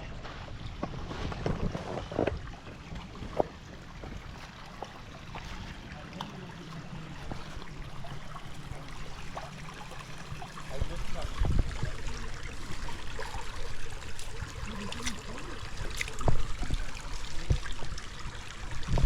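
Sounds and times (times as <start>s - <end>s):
creek water splashing and trickling: 0.0s - 19.0s.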